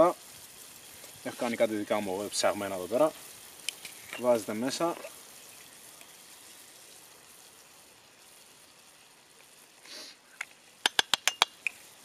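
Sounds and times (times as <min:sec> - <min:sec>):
soft rustle of spices: 0:00.0 - 0:10.8.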